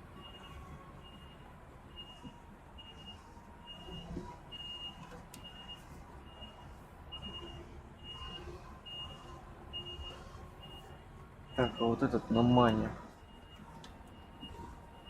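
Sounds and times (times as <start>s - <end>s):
truck engine idling: 0.0s - 15.0s
reversing alarm beeping: 0.1s - 15.0s.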